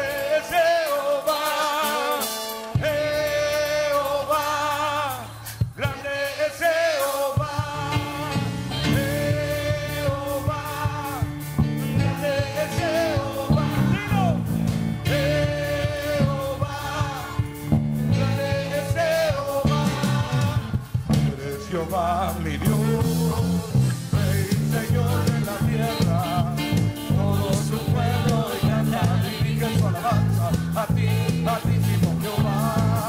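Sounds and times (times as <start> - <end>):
bass: 0.0 - 33.0
congregation singing along: 0.0 - 33.0
people singing with vibrato: 0.0 - 33.0
steady drum beat: 2.1 - 33.0.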